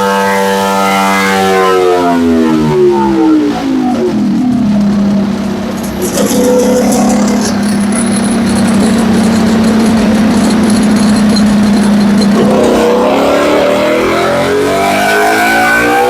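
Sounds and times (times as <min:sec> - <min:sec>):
motorcycle engine revving on dyno: 0:00.0 - 0:05.4, 0:06.0 - 0:16.0.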